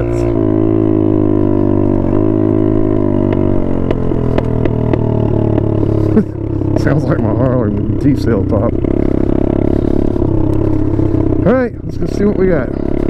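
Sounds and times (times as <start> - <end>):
dirt bike engine at full throttle: 0.0 - 13.0.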